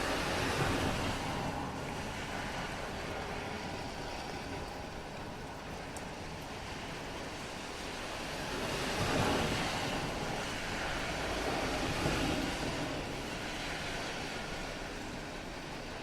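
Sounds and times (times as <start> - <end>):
car tyres swishing on wet road: 0.0 - 16.0
steady rain hiss: 0.0 - 16.0.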